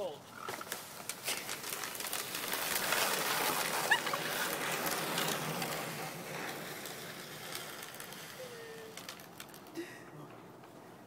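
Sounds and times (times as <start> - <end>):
laundry basket scraping over icy snow: 0.6 - 9.7.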